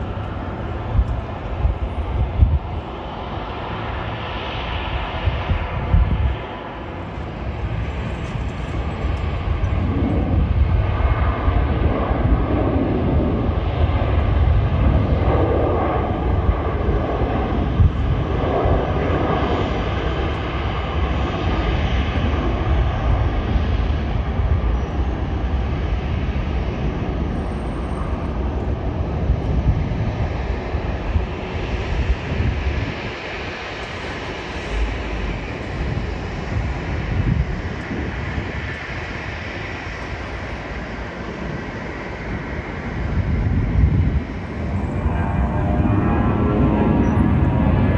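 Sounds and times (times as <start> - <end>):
jet airliner engines roaring: 0.0 - 47.9.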